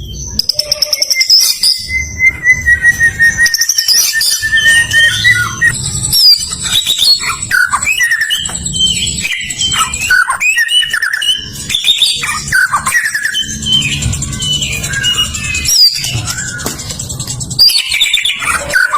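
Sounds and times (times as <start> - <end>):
bird singing whistles and trills: 0.0 - 18.9.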